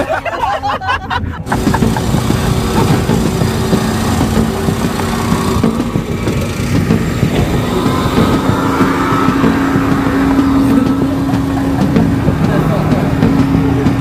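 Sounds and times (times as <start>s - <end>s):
car engine idling: 1.4s - 14.0s.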